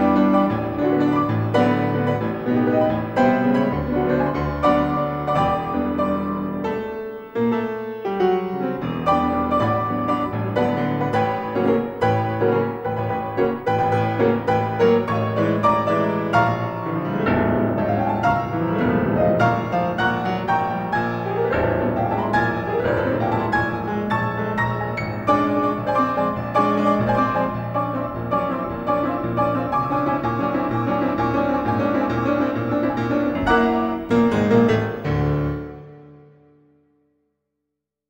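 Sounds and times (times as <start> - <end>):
solo classical piano: 0.0 - 37.2.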